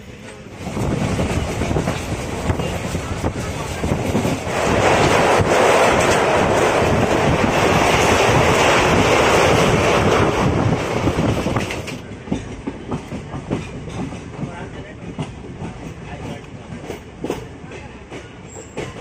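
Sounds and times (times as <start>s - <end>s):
train rumbling over steel bridge: 0.0s - 19.0s.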